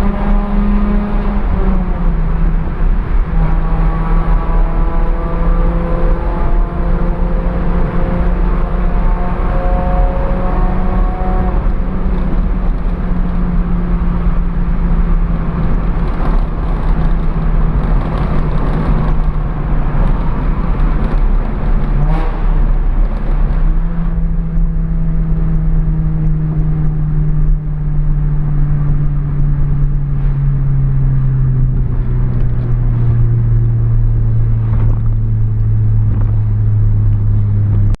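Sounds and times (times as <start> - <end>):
car engine running: 5.6 - 38.0.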